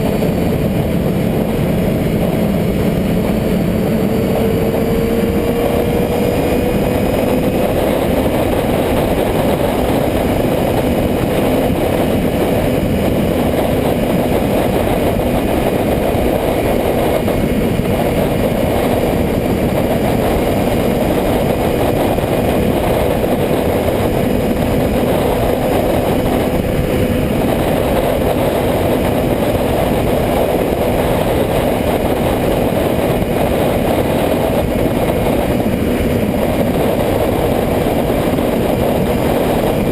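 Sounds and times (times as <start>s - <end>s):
loud rushing noise: 0.0s - 39.9s
motorcycle engine running: 0.0s - 39.9s.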